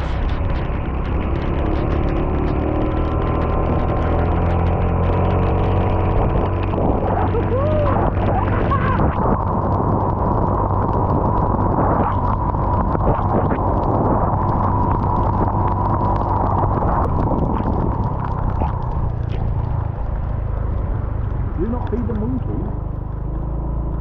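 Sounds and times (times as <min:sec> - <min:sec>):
scattered clicks: 0:00.0 - 0:24.0
wind rumble on microphone: 0:00.0 - 0:24.0.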